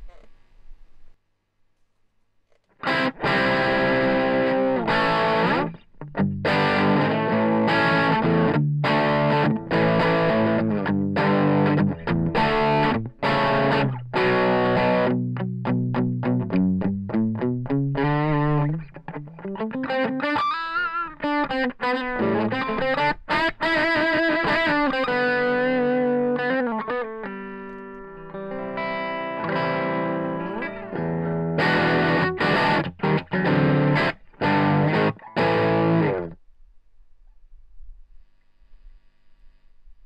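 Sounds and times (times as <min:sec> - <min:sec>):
distorted electric guitar: 0:02.8 - 0:36.4.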